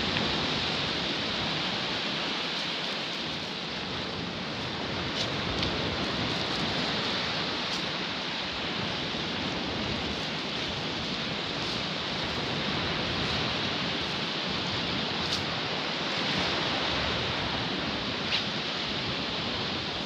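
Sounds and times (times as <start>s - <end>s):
sea waves washing onto beach: 0.0s - 20.0s.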